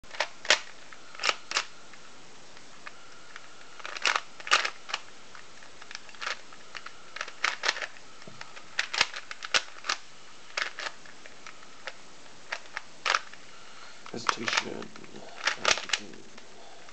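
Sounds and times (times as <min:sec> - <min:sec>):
puzzle cube twisting clicks: 0:00.1 - 0:01.7, 0:02.8 - 0:13.4, 0:14.0 - 0:16.2.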